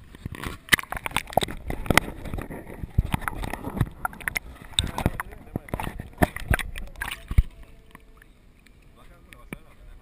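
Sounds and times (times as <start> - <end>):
water splashing against kayak hulls: 0.0 - 9.7.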